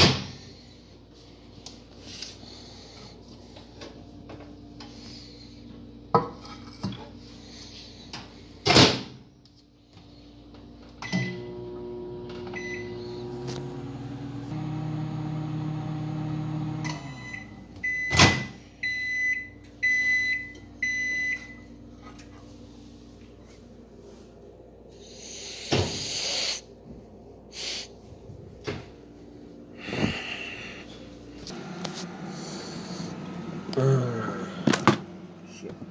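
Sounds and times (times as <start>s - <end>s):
microwave oven humming: 0.0s - 25.8s, 26.6s - 35.9s.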